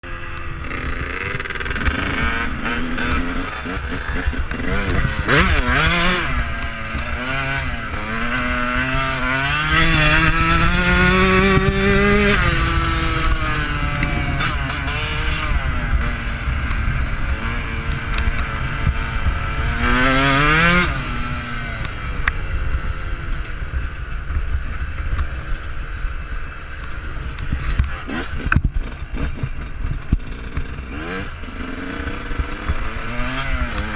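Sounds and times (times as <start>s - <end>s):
two-stroke motocross engine revving: 0.0s - 33.9s.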